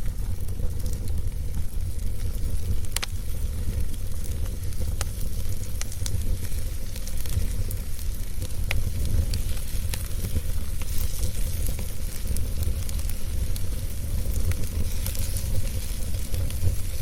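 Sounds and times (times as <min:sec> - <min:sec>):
logs crackling and popping: 0:00.0 - 0:17.0
wood fire rumbling: 0:00.0 - 0:17.0.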